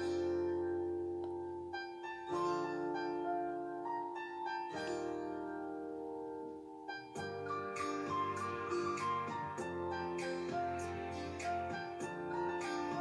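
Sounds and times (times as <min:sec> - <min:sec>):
background music of held chords: 0:00.0 - 0:13.0.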